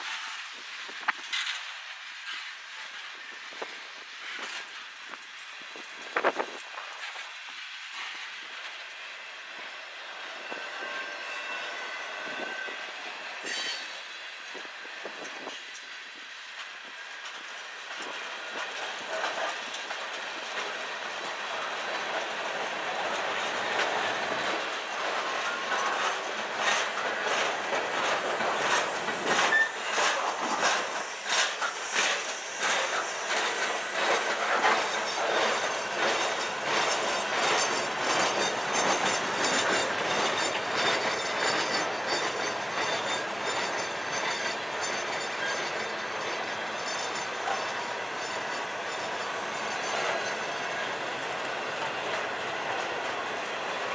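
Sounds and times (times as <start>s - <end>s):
freight train wheels clicking: 0.0s - 53.9s.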